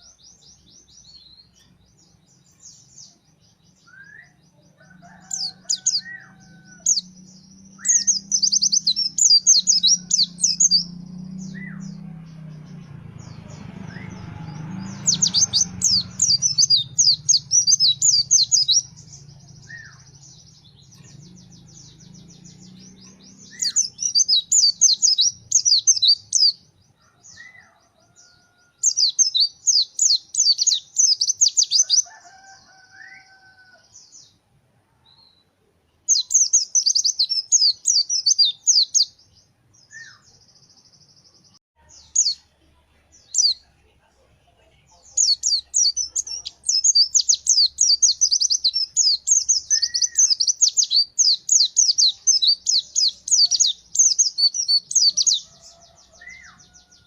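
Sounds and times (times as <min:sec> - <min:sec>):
bird chattering song: 0:00.0 - 0:14.2, 0:14.8 - 0:26.7, 0:28.9 - 0:32.1, 0:36.1 - 0:39.2, 0:41.8 - 0:43.8, 0:44.8 - 0:57.0.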